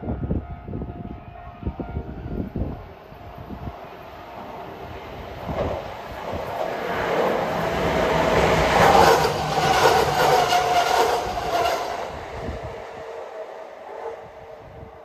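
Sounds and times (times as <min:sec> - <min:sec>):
train wheels rumbling: 0:02.4 - 0:14.9.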